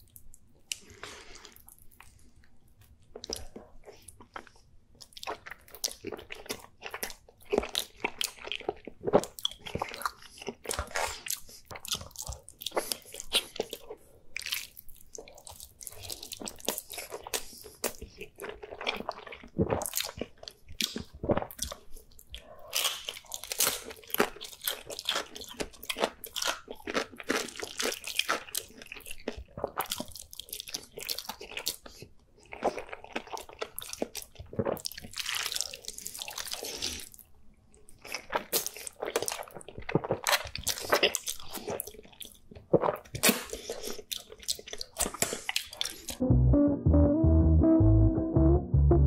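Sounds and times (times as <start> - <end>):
person slurping and chewing food: 3.2 - 37.2, 37.9 - 46.2.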